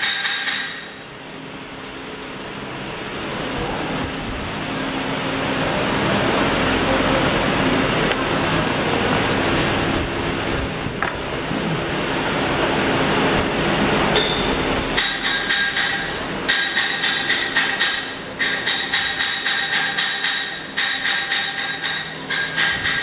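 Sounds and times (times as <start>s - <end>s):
welding arc hissing crackle: 0.0s - 23.0s.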